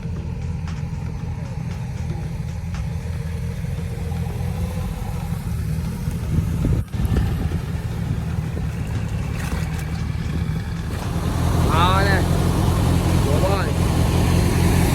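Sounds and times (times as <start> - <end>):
off-road vehicle engine running: 0.0 - 14.9.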